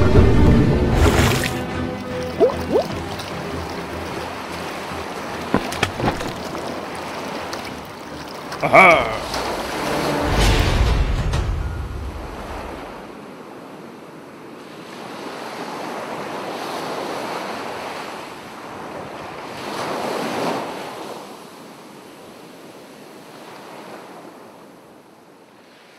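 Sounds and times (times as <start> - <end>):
ocean waves washing in: 0.0 - 25.9
wind: 0.0 - 25.9.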